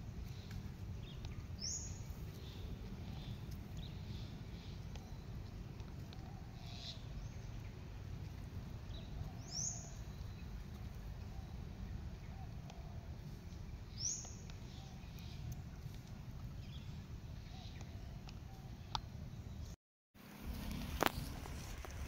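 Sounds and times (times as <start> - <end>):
birds chirping: 0.0 - 19.8.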